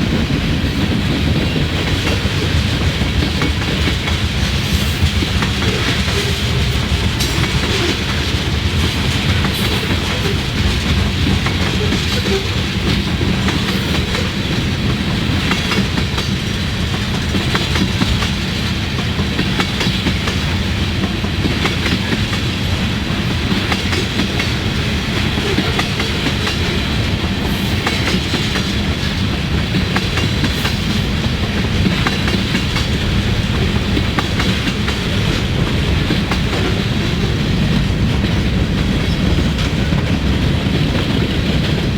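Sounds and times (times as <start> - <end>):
freight train rolling past: 0.0 - 41.9
wheels clicking over rail joints: 0.0 - 41.9.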